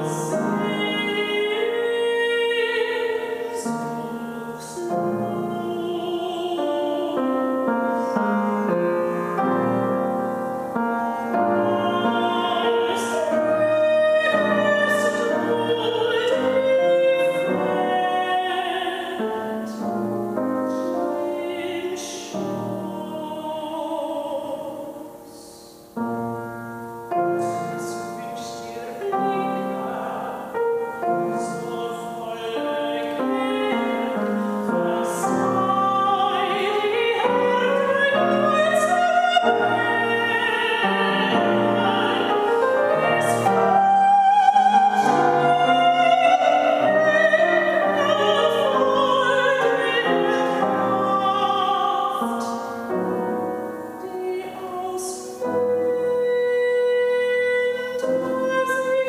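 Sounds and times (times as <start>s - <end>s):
grand piano: 0.0s - 59.0s
woman singing classical song: 0.0s - 59.0s.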